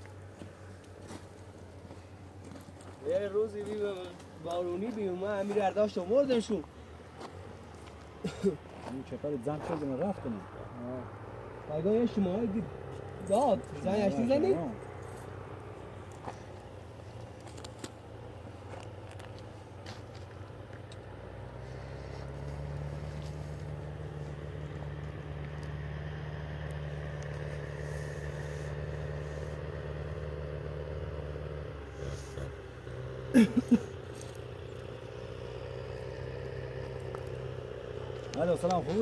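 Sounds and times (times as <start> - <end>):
vehicle engine droning: 0.0 - 39.0.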